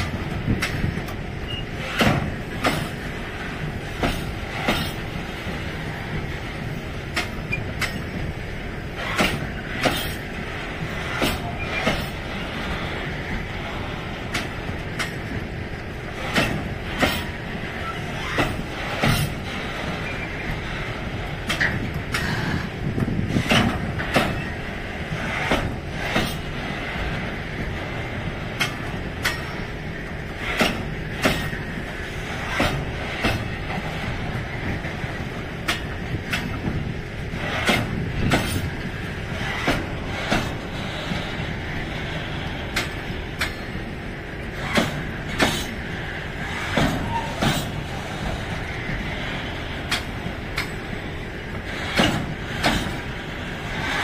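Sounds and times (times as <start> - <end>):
train wheels knocking: 0.0 - 1.2, 1.8 - 8.4, 9.0 - 12.4, 13.3 - 15.5, 16.1 - 20.0, 21.2 - 29.7, 30.3 - 43.9, 44.5 - 45.8, 46.4 - 54.0
freight wagons rumbling: 0.0 - 54.0.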